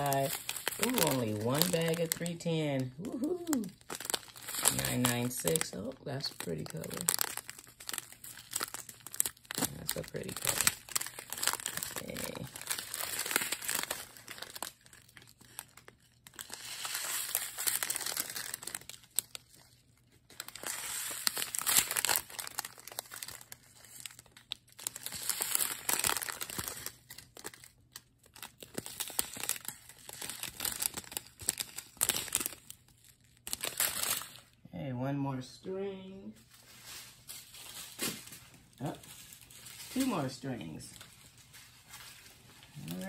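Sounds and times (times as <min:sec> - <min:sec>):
plastic bags crinkling: 0:00.0 - 0:34.6, 0:36.4 - 0:43.0.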